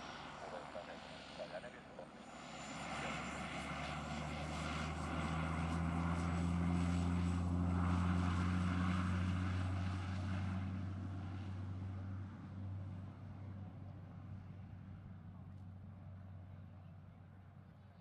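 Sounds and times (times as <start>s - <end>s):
propeller aircraft engine: 0.0s - 18.0s.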